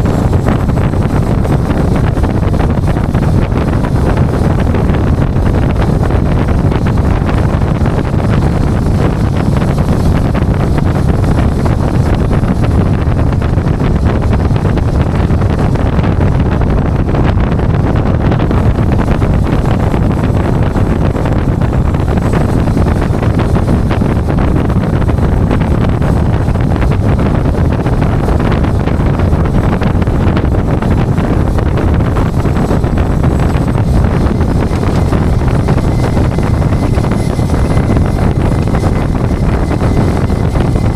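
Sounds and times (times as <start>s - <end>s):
tow truck driving rumble: 0.0s - 40.9s
wind buffeting microphone: 0.0s - 40.9s.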